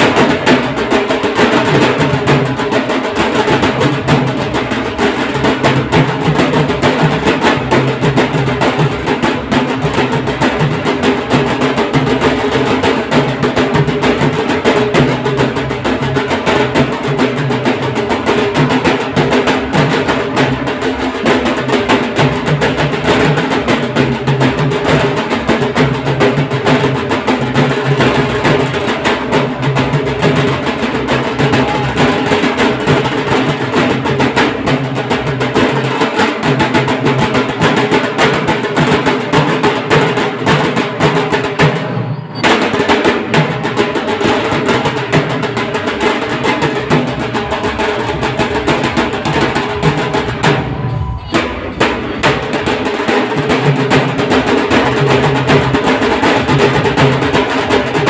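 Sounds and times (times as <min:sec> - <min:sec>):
drums playing fast rhythm: 0:00.0 - 0:58.0.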